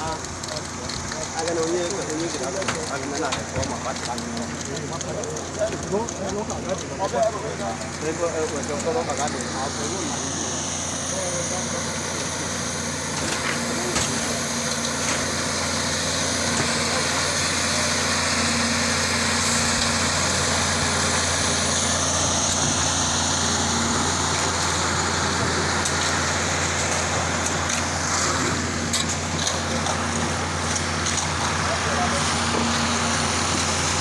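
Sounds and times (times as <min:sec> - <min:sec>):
concrete pump engine droning: 0:00.0 - 0:34.0.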